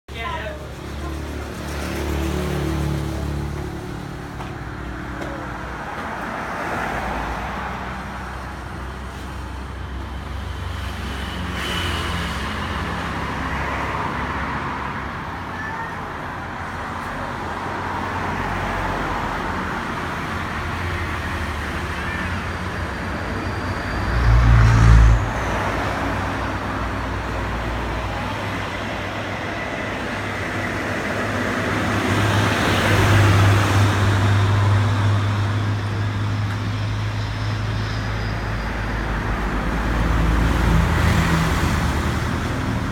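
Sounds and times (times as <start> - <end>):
road and traffic noise: 0.1 - 42.9.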